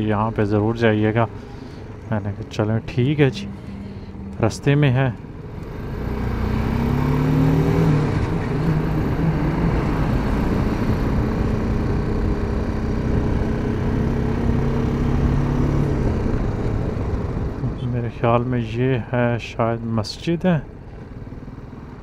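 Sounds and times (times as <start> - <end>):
motorcycle engine running: 0.0 - 18.6, 20.6 - 22.0
wind and road noise: 0.0 - 22.0.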